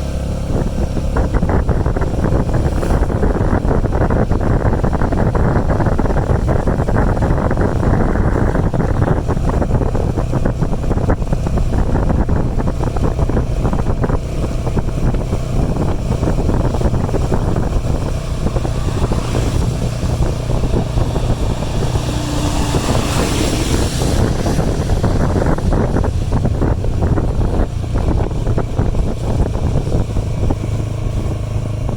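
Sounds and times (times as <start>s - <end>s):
motorbike engine rumble: 0.0s - 31.9s
wind buffeting microphone: 0.0s - 31.9s.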